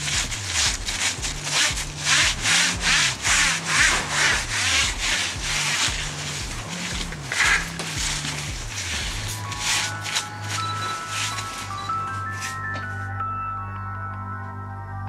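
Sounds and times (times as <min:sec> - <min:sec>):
sanding sponge scratching: 0:00.0 - 0:12.6.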